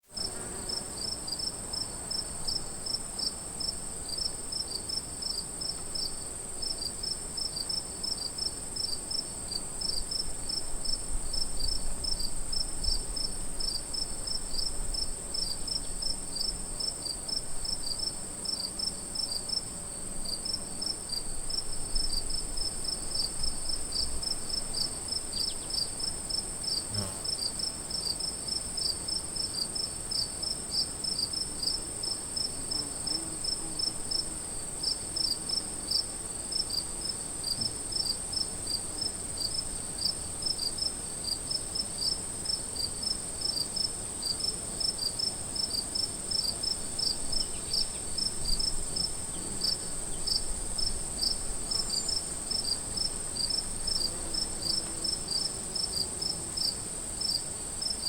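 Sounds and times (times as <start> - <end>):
crickets chirping: 0.2 - 58.0.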